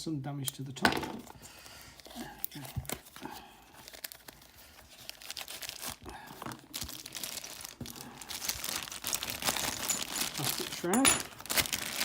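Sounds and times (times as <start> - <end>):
plastic packet crinkling: 1.6 - 12.0.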